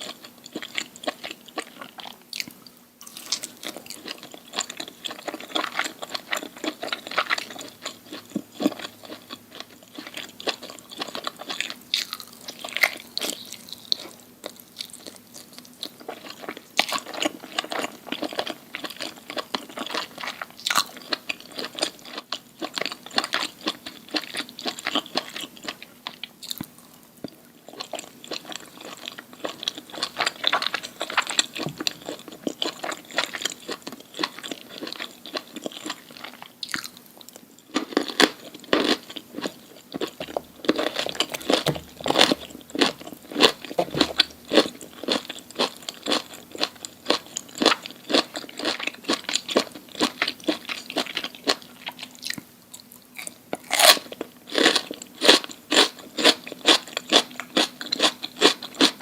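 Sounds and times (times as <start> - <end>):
crunching and chewing food: 0.0 - 59.0.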